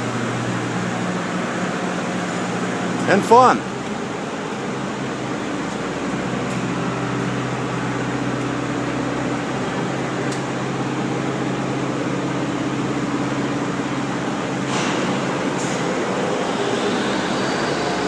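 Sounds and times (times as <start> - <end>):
hydraulic lift engine humming: 0.0 - 18.0.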